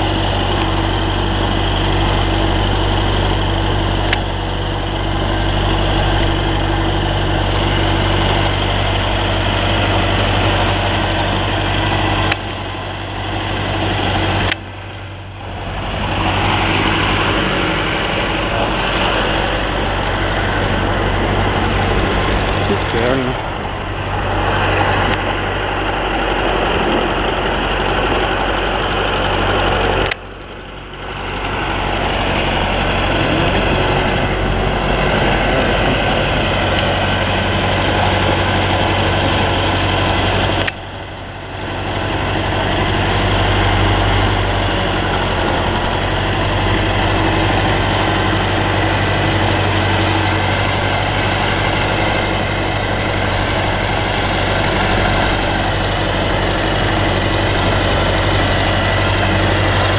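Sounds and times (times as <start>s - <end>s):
heavy machinery engine running: 0.0s - 59.9s.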